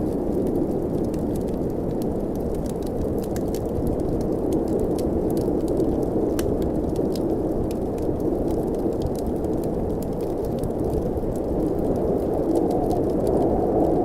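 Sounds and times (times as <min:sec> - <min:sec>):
blizzard wind: 0:00.0 - 0:14.0
wood fire crackling: 0:00.0 - 0:14.0.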